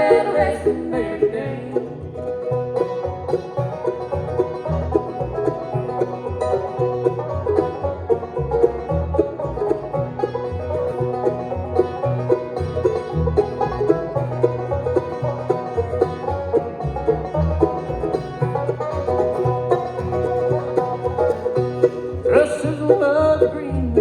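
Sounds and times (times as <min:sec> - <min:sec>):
banjo picking fast rolls: 0:00.0 - 0:24.0
guitar: 0:00.0 - 0:24.0
string bass: 0:00.0 - 0:24.0.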